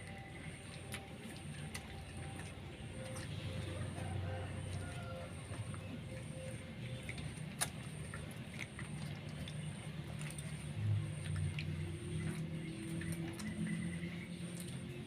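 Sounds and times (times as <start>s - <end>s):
low steady hum: 0.0s - 15.0s
puppies suckling: 0.0s - 15.0s.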